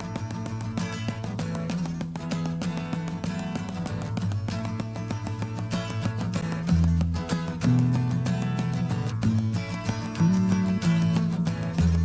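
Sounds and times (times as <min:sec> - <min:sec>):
guitar plucked and strummed: 0:00.0 - 0:12.0.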